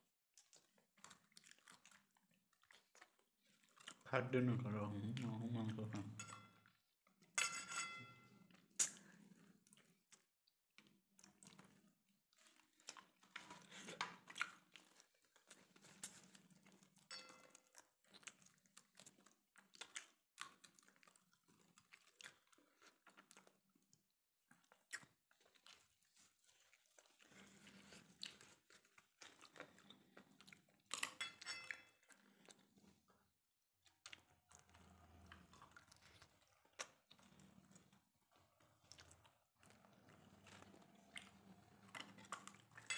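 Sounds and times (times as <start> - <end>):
chewing mouth sounds: 0.4 - 4.0, 8.3 - 42.9.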